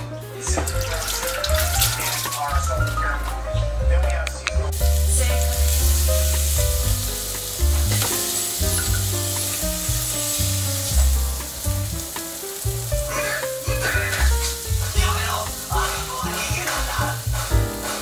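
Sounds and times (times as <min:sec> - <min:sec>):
background music with bass: 0:00.0 - 0:18.0
butter and garlic sizzling: 0:00.0 - 0:18.0.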